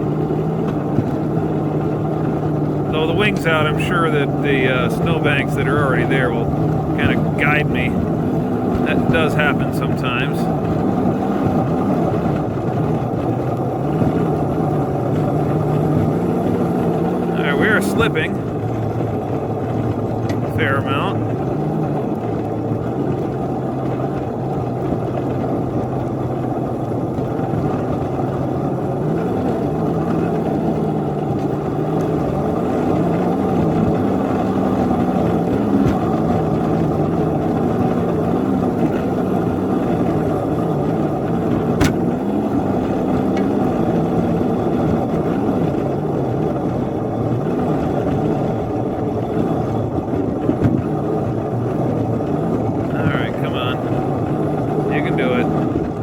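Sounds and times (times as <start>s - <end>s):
locomotive engine under load: 0.0s - 56.0s.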